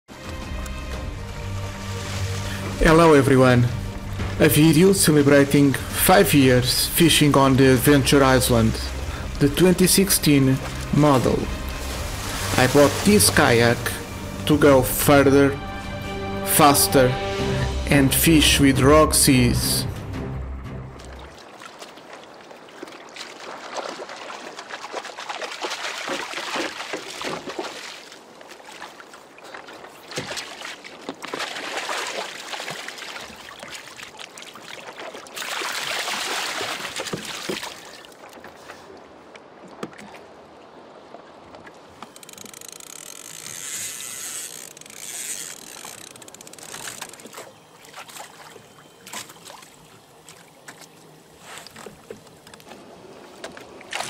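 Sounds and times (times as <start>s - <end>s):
water splashing against hull: 0.1s - 15.2s, 20.8s - 54.0s.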